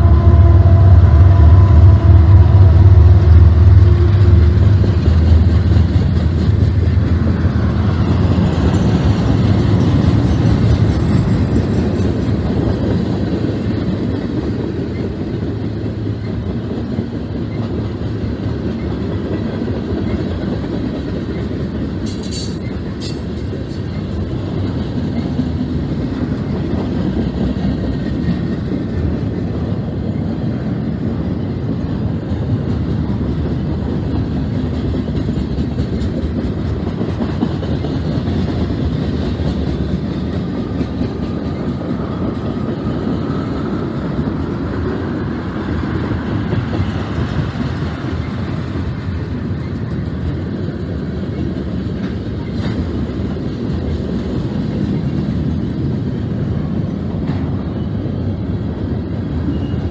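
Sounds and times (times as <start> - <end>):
freight train rolling past: 0.0 - 59.9
wheels clacking over rail joints: 1.3 - 59.9.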